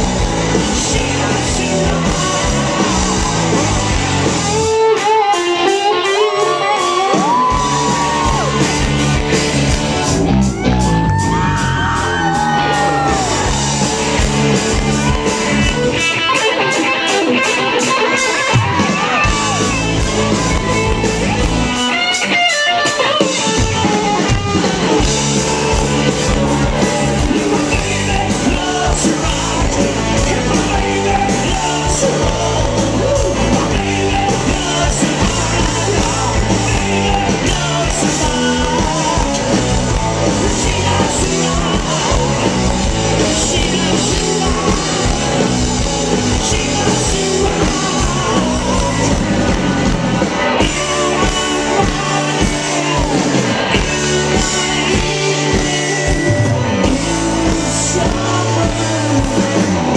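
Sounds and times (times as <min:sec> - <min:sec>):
man singing lead vocal: 0:00.0 - 0:09.1, 0:10.1 - 0:59.9
live rock band playing: 0:00.0 - 0:59.9.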